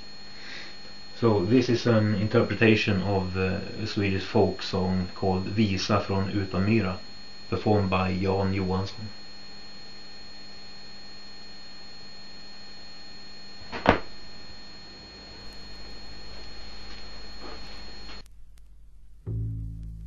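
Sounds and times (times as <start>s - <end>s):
electrical hum: 0.0s - 20.0s
stylus rumble and crackle: 0.0s - 20.0s.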